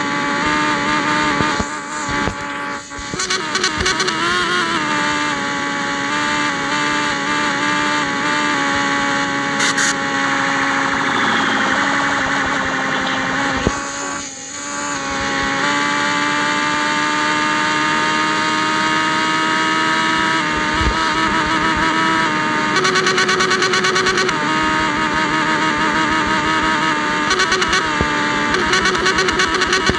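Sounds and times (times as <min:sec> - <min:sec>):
motorcycle engine running loud: 0:00.0 - 0:29.9.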